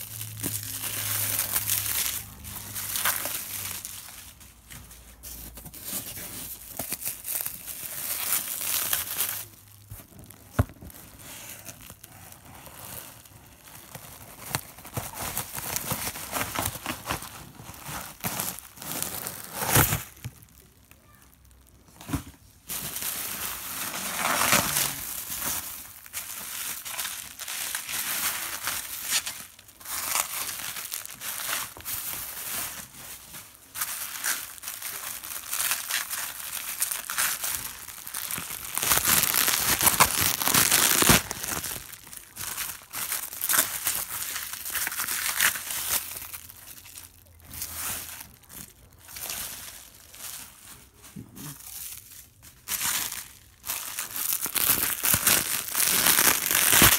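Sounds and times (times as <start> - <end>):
bubble wrap crinkling: 0.0 - 56.9.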